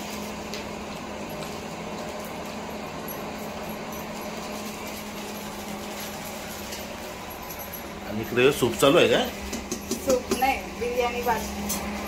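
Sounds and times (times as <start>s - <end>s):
machinery running hum: 0.0s - 12.0s.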